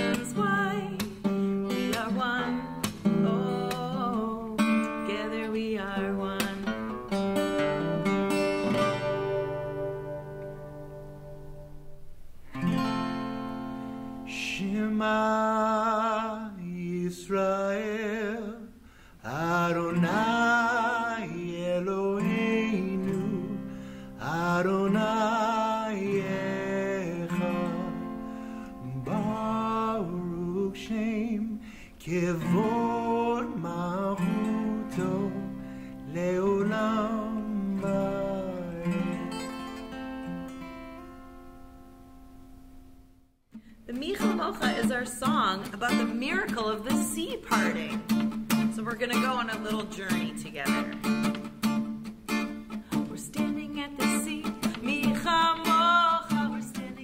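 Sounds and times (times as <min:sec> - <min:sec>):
person singing with vibrato: 0:00.0 - 0:09.7, 0:14.2 - 0:40.2, 0:43.6 - 0:51.2, 0:52.6 - 0:57.0
acoustic guitar: 0:00.0 - 0:57.0.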